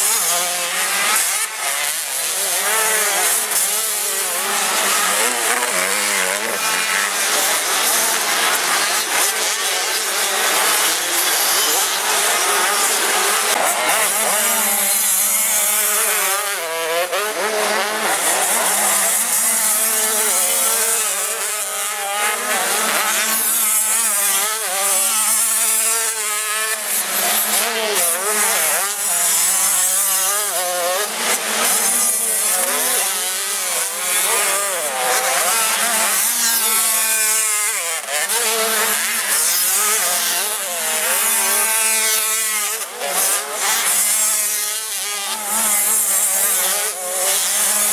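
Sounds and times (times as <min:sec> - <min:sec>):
motocross bikes revving: 0:00.0 - 0:47.9.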